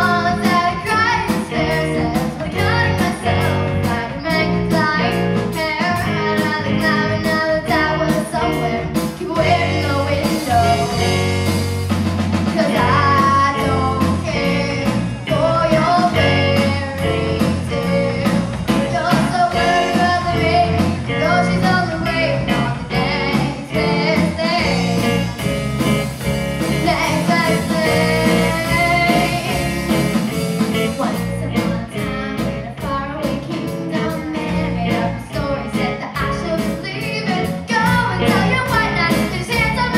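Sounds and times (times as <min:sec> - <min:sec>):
girl singing into a microphone: 0:00.0 - 0:11.2, 0:12.5 - 0:25.3, 0:26.7 - 0:29.9, 0:30.7 - 0:39.9
electric bass guitar: 0:00.0 - 0:39.9
steady drum beat: 0:00.0 - 0:39.9.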